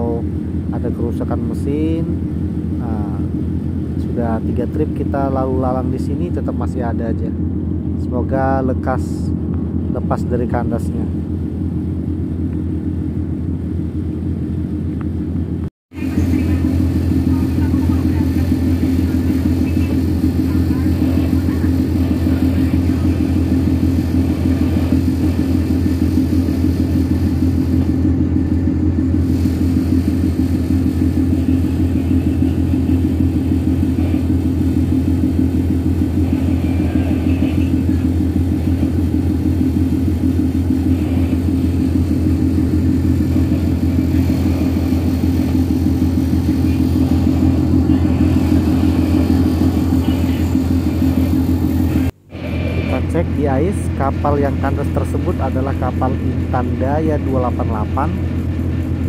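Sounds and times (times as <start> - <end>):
boat diesel engine drone: 0.0 - 59.0.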